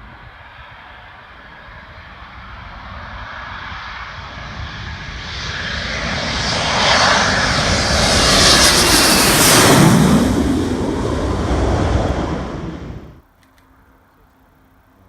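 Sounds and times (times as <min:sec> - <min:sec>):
jet engine approaching: 0:00.0 - 0:13.2.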